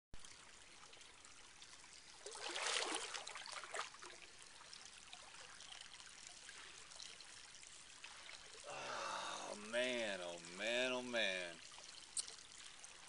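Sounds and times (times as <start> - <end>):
water trickling and flowing: 0.2 - 13.0.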